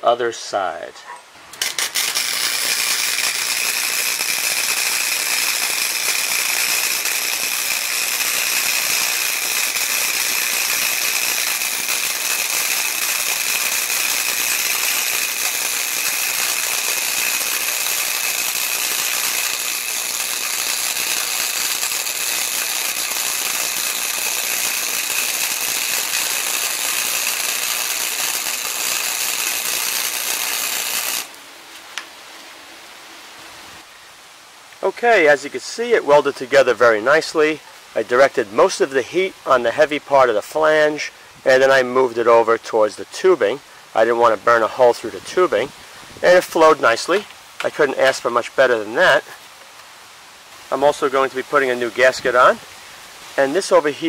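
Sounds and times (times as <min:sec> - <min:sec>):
arc welder crackling sizzle: 0:00.5 - 0:32.6, 0:34.4 - 0:54.0.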